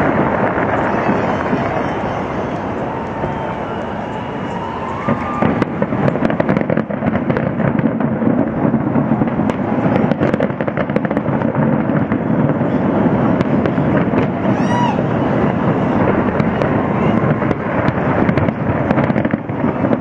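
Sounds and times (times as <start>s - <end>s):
continuous rumble: 0.0s - 20.0s
firework bangs and crackles: 0.0s - 20.0s.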